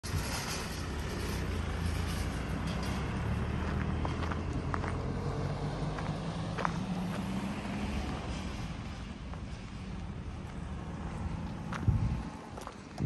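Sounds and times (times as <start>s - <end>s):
road traffic engines: 0.0s - 13.0s
truck driving past: 0.0s - 13.0s.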